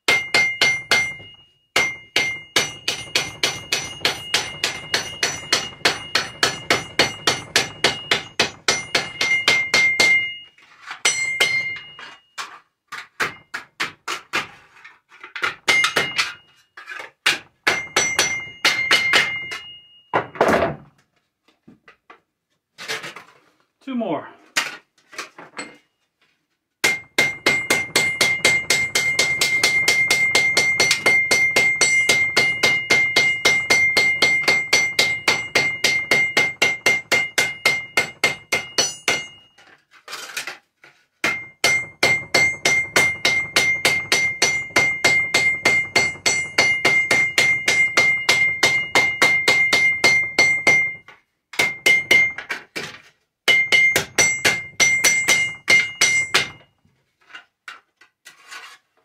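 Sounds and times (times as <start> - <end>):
hammer beating tin metal: 0.0 - 14.4, 15.4 - 16.6, 17.2 - 20.7, 26.8 - 39.7, 41.2 - 56.8.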